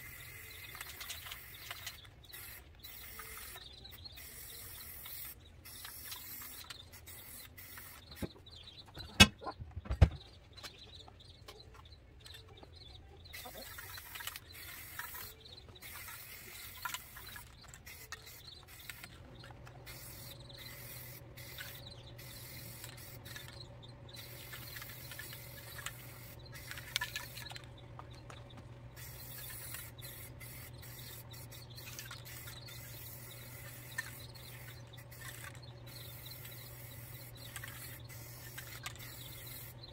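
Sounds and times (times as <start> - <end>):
spray paint can hissing: 0.0 - 8.3, 13.3 - 28.3, 28.9 - 39.9
steady low hum: 0.0 - 39.9.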